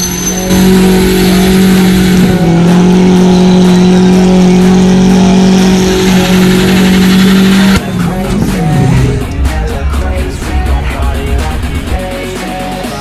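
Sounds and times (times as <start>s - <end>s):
car engine revving high: 0.5s - 12.0s.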